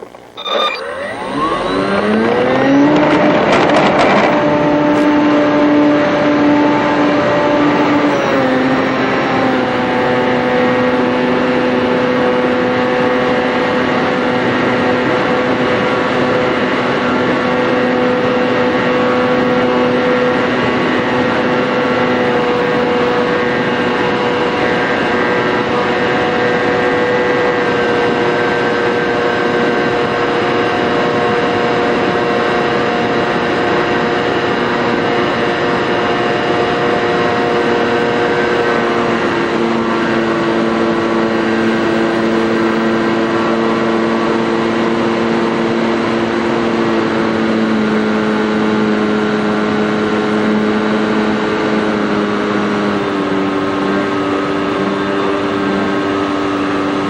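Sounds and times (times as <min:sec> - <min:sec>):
model airplane motor drone: 0:00.0 - 0:57.0.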